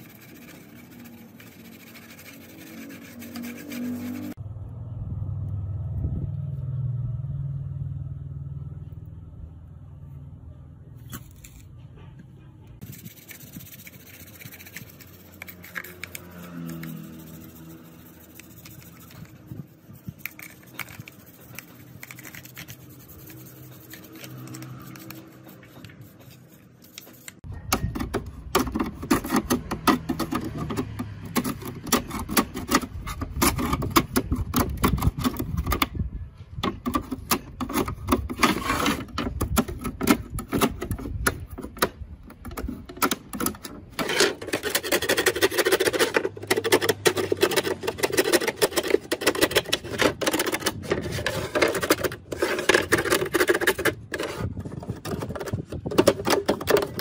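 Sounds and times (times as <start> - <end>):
clicking and scraping of small parts: 0.0 - 4.4, 11.0 - 57.0.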